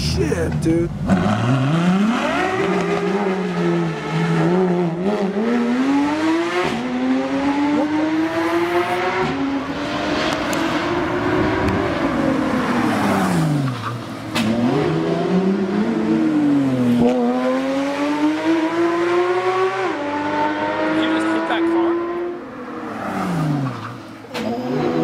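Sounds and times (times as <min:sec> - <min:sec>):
car engine revving hard: 0:01.0 - 0:25.0.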